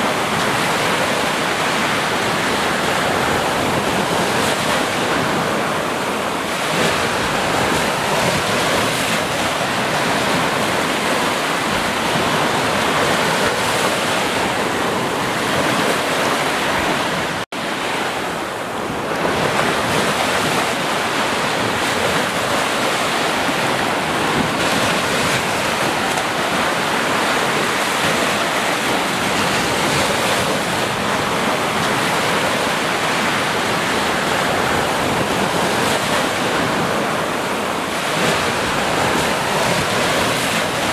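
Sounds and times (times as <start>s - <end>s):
ocean surf washing in: 0.0s - 40.9s.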